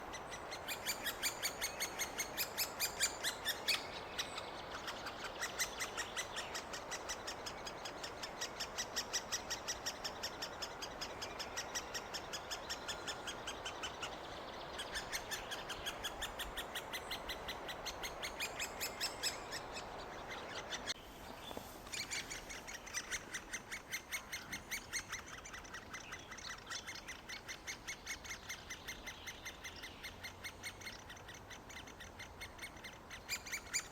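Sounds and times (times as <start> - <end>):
woodpecker nestlings calling: 0.0 - 33.9.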